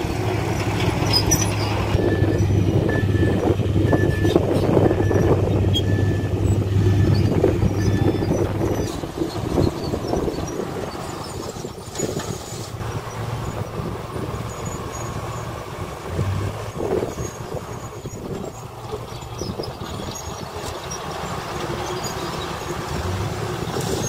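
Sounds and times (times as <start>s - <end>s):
dump truck engines idling: 0.0s - 24.0s.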